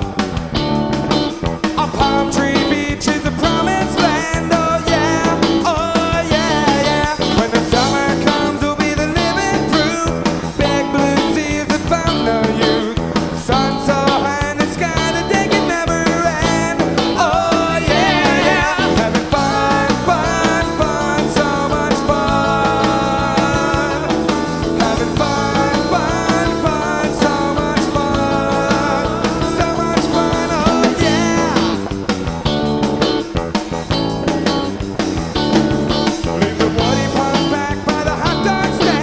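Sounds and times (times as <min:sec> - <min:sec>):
bass guitar: 0:00.0 - 0:39.0
drums: 0:00.0 - 0:39.0
electric guitar: 0:00.0 - 0:39.0.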